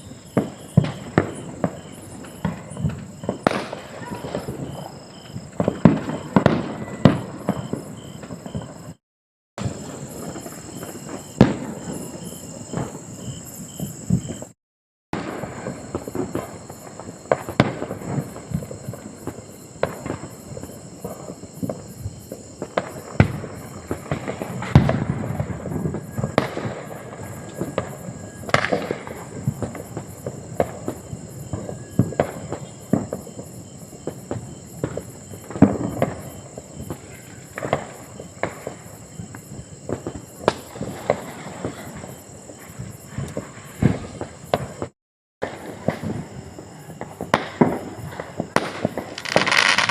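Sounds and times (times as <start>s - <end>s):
distant firecracker bangs: 0.0s - 9.0s, 9.6s - 49.9s
continuous crackle: 0.3s - 9.0s, 15.2s - 49.9s.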